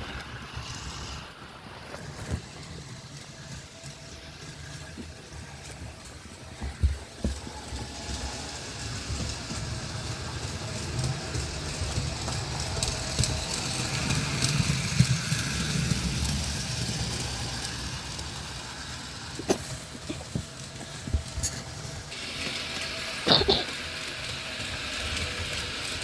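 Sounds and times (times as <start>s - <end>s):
model train rumbling: 0.0s - 26.0s.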